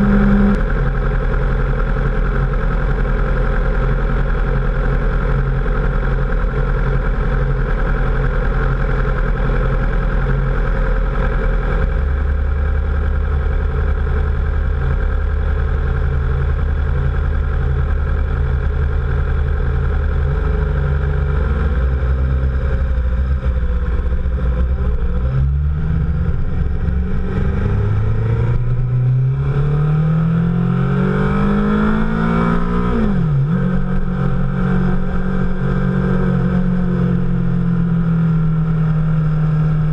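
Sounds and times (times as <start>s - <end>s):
motorcycle engine idling and accelerating: 0.0s - 39.9s.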